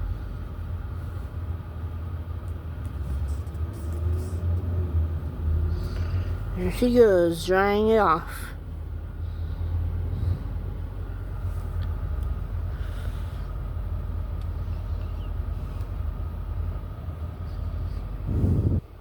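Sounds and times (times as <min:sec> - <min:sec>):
air dryers low rumble: 0:00.0 - 0:19.0
faint fan whine: 0:00.0 - 0:19.0.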